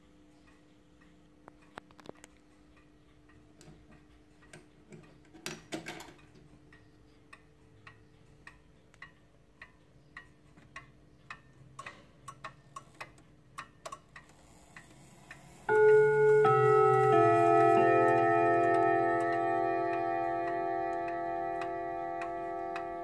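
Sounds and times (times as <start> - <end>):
pendulum clock ticking: 0.0 - 5.3, 6.2 - 23.0
clock mechanism clicks: 0.4 - 23.0.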